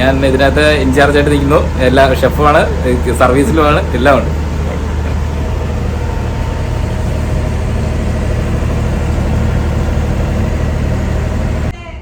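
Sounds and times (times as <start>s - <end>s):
engine idling: 0.0s - 11.7s
faint mid-pitched drone: 0.0s - 12.0s.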